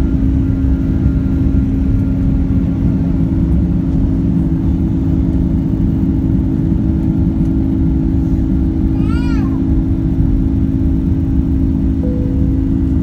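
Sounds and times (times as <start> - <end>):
jet engine cabin drone: 0.0 - 13.0.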